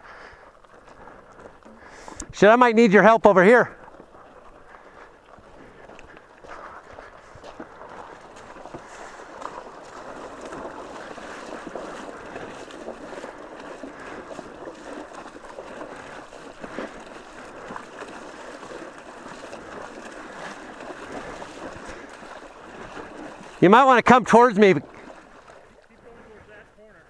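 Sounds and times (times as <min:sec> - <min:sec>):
river water sloshing and splashing: 0:00.0 - 0:26.9.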